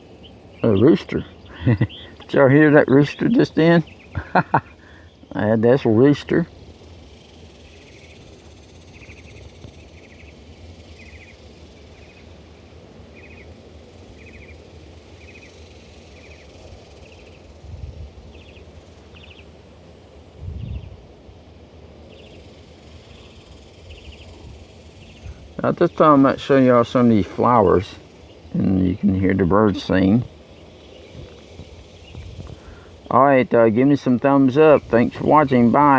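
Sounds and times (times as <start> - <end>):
insects shrilling high-pitched: 0.0 - 20.8, 22.0 - 35.9.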